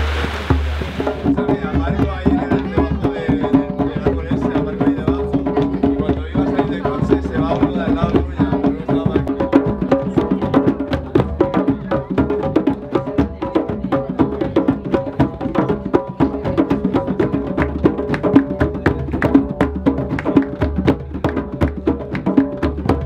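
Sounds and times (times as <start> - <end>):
many drums playing fast rhythm: 0.0 - 23.0.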